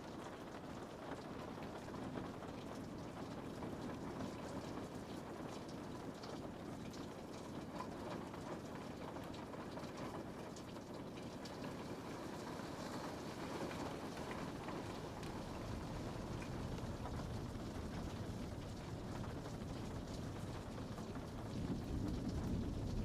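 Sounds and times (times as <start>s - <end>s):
rain on a window: 0.0s - 23.0s.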